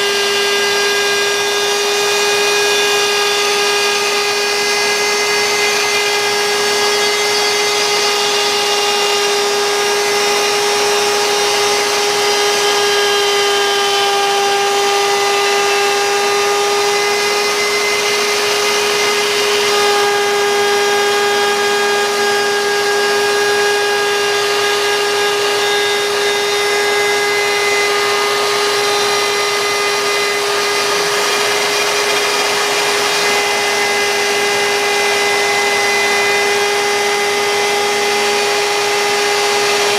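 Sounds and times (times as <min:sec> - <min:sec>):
router spindle whining while cutting wood: 0:00.0 - 0:39.9.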